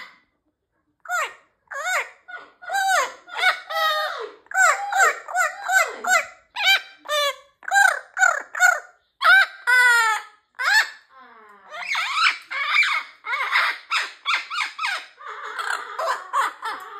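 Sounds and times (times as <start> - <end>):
parrot calling: 1.0 - 16.9.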